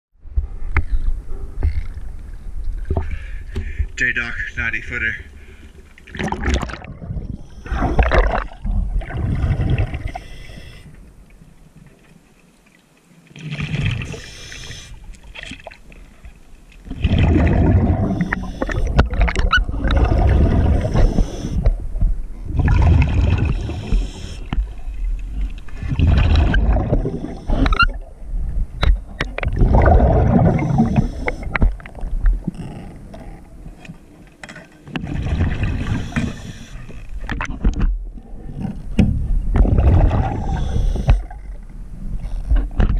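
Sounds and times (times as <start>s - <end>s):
water rushing and gurgling underwater: 0.2s - 4.0s, 4.6s - 42.9s.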